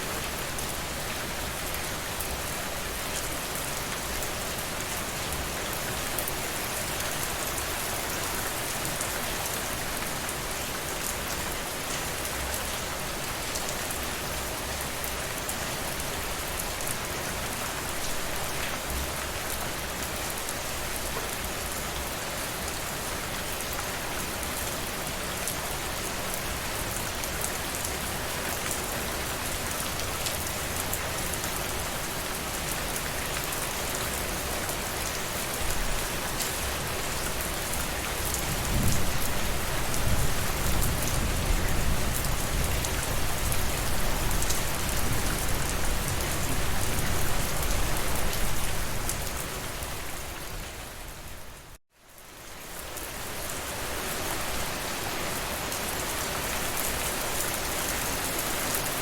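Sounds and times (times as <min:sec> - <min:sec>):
rain pattering: 0:00.1 - 0:51.4.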